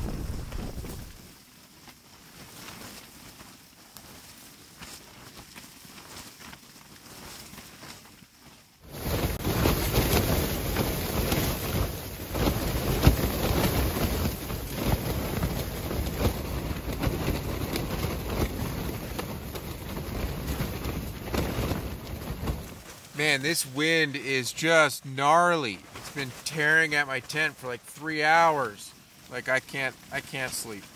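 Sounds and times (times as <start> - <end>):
wind buffeting tent fabric: 0.0 - 24.8, 28.1 - 30.9
snow pelting nylon: 0.0 - 30.9.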